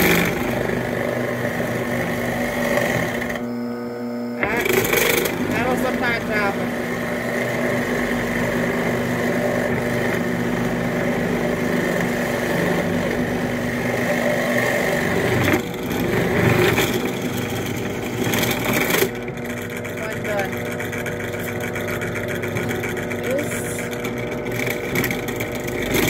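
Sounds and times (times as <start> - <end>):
drill press bit cutting wood: 0.0 - 26.0.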